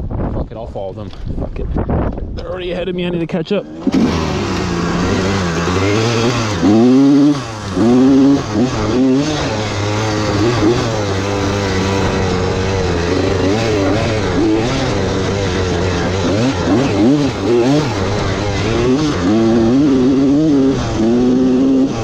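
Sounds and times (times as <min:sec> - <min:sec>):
dirt bike engine revving: 0:03.2 - 0:22.0.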